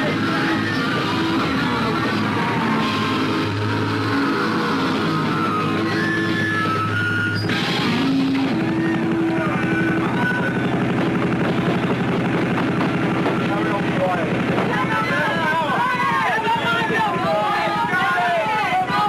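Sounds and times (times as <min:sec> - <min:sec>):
distorted electric guitar: 0:00.0 - 0:18.4
punk rock music: 0:00.0 - 0:19.0.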